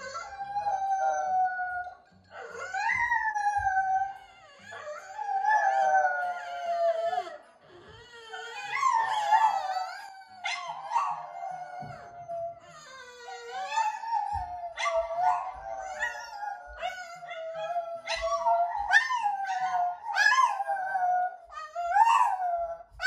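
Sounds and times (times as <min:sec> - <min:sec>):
dog howling: 0:00.0 - 0:23.0.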